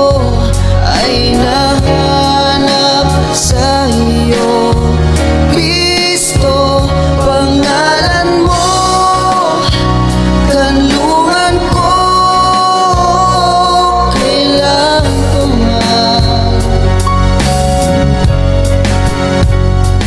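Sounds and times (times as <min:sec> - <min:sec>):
man singing worship song: 0:00.0 - 0:18.0
instrumental backing track: 0:00.0 - 0:20.0.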